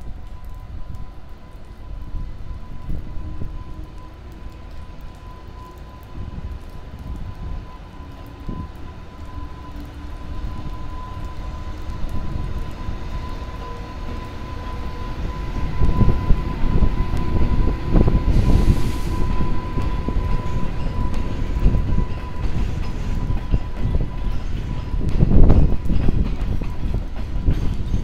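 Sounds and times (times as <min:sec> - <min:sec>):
wind buffeting microphone: 0:00.0 - 0:05.2, 0:06.0 - 0:28.0
electric locomotive passing: 0:00.0 - 0:28.0.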